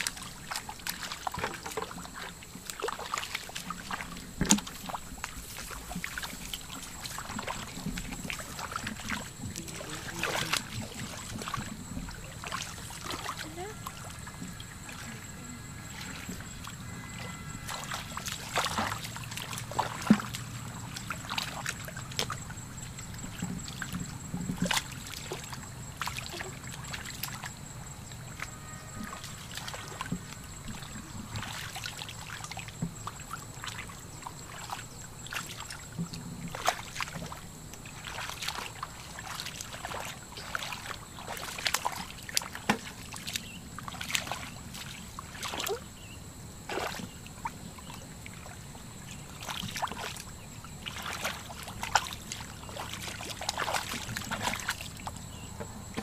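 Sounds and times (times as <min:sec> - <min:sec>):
hands splashing in water: 0:00.0 - 0:22.5, 0:28.4 - 0:35.8, 0:36.5 - 0:45.8, 0:46.7 - 0:47.2, 0:49.3 - 0:55.3.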